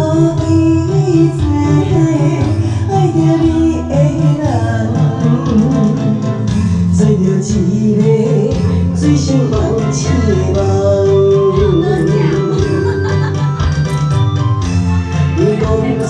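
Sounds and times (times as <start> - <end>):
live band playing pop: 0.0 - 16.0.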